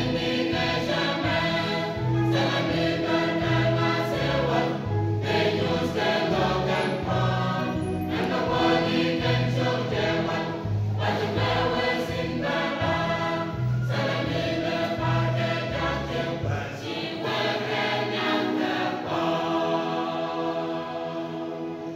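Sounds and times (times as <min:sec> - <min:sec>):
choir singing in parts: 0:00.0 - 0:21.9.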